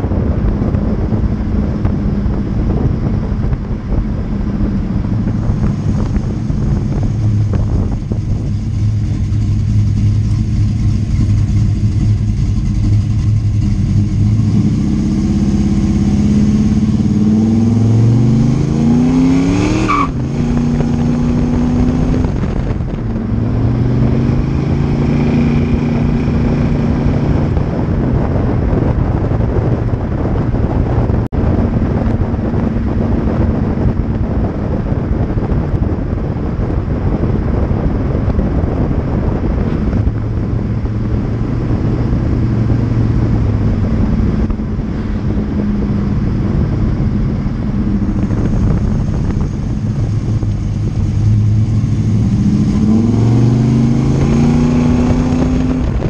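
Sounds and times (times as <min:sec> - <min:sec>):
car engine driving: 0:00.0 - 0:56.0
tire and wind noise: 0:00.0 - 0:56.0.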